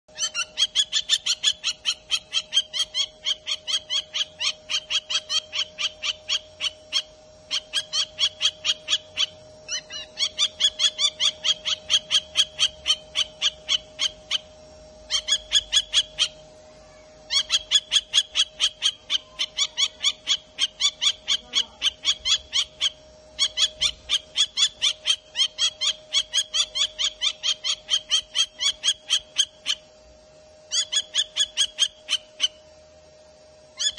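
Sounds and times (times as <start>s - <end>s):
kestrel calling: 0.1s - 29.9s, 30.6s - 32.7s.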